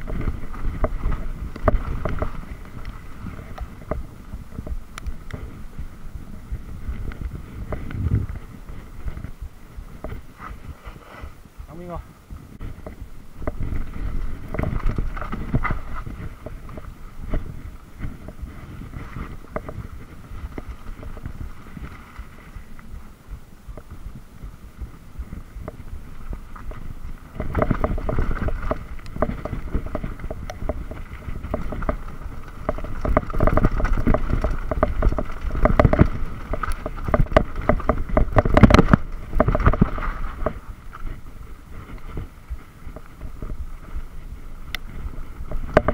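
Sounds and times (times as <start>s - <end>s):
bike rattling and knocking: 0.0s - 10.8s, 11.8s - 45.9s
bike tyres on dirt trail: 0.0s - 45.9s
wind on microphone: 0.0s - 45.9s.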